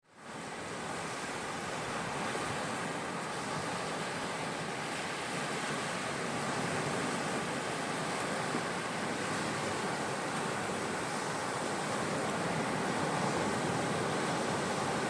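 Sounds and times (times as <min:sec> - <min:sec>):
sea surf washing onto beach: 0:00.1 - 0:15.0.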